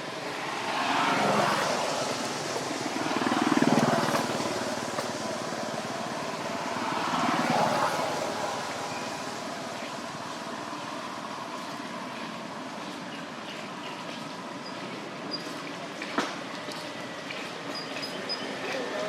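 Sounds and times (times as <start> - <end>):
vehicle engines passing: 0.0 - 19.0.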